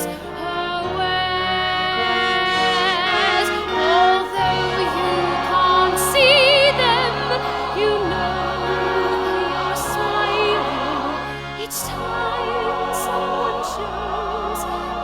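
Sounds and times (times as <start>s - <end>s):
woman singing with vibrato: 0.0s - 14.6s
orchestral accompaniment: 0.0s - 15.0s.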